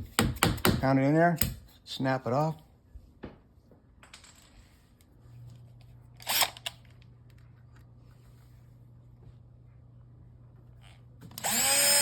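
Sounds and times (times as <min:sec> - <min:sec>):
low steady hum: 0:01.4 - 0:12.0.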